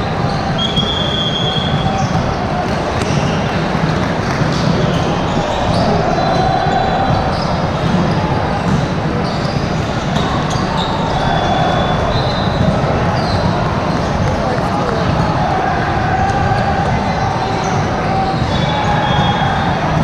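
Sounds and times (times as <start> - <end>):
balls struck and bouncing: 0.0 - 20.0
crowd chattering: 0.0 - 20.0.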